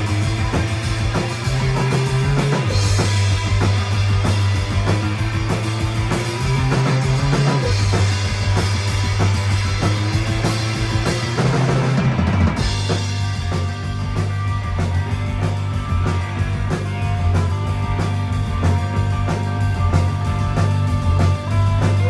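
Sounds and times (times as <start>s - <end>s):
distorted electric guitars: 0.0s - 22.0s
drum kit with cymbals: 0.0s - 22.0s
low bass line: 0.0s - 22.0s.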